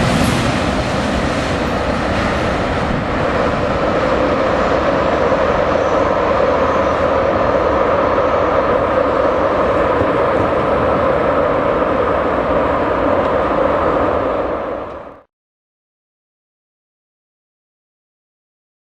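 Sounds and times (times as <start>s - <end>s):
freight train wheels on rails: 0.0s - 15.3s.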